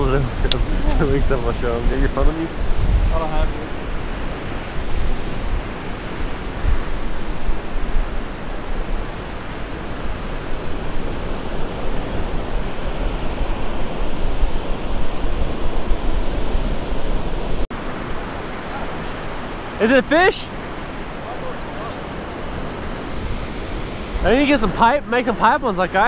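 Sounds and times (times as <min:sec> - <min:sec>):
surf rushing: 0:00.0 - 0:26.0
wind buffeting microphone: 0:00.0 - 0:26.0.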